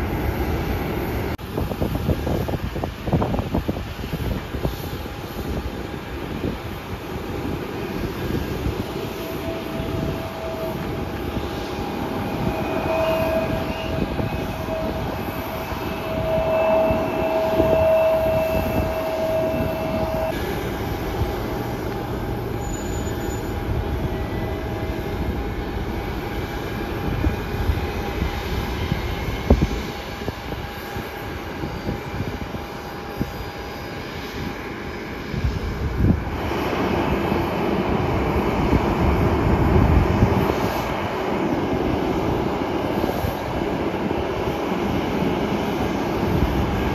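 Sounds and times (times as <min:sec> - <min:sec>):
jet engine whine: 0:00.0 - 0:46.9
jet engines rumbling: 0:00.0 - 0:46.9.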